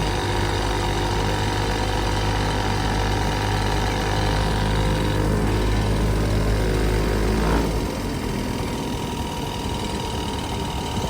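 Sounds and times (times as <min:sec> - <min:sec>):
go-kart engine humming: 0:00.0 - 0:11.0.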